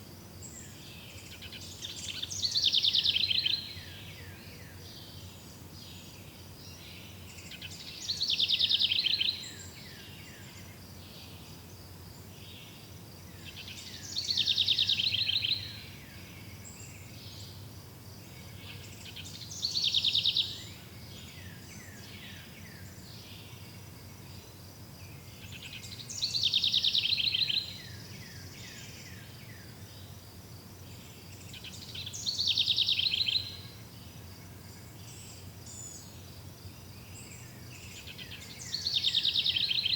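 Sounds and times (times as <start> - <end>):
faint insect chirring: 0.0 - 39.9.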